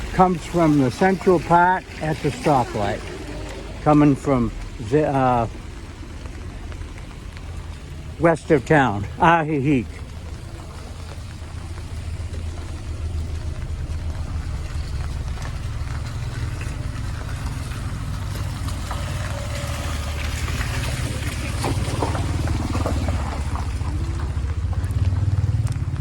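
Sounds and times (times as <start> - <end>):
car engines running: 0.0 - 26.0
rain falling: 0.0 - 26.0
tyres hissing on wet road: 0.0 - 26.0.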